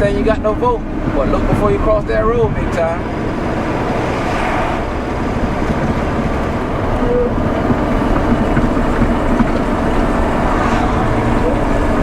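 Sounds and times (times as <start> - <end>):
truck engine and tyre rumble: 0.0 - 12.0.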